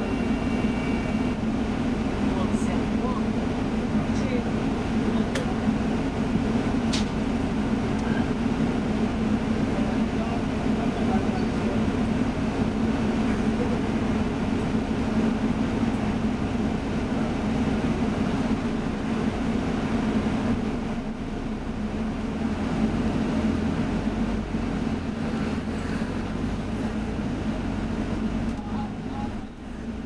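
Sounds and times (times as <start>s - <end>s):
bus engine and road noise: 0.0s - 30.0s.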